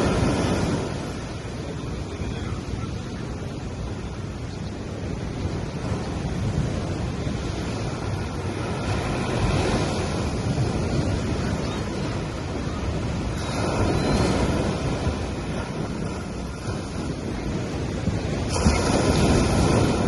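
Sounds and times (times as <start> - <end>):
ocean waves breaking on sand: 0.0 - 20.0.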